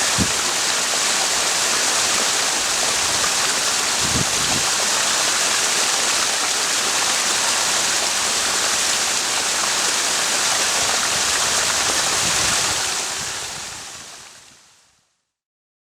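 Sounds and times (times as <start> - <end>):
spring water flowing: 0.0 - 14.5.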